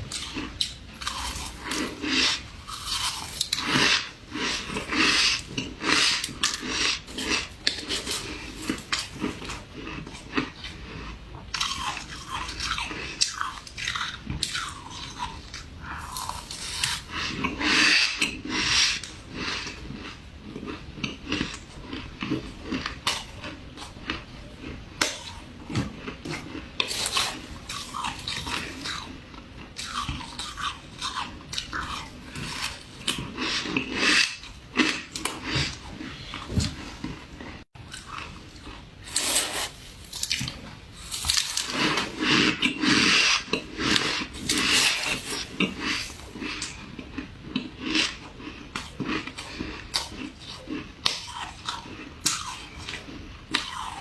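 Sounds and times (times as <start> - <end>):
ice being bitten and chewed: 0.0 - 54.0.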